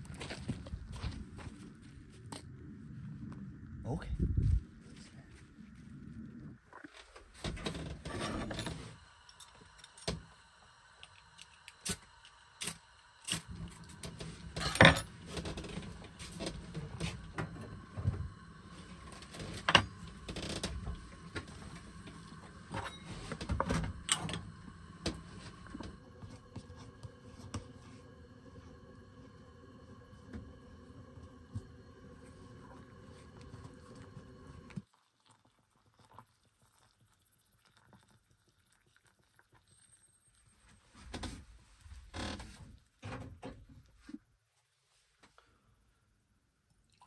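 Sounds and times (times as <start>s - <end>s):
faint high hum: 0.0s - 44.1s.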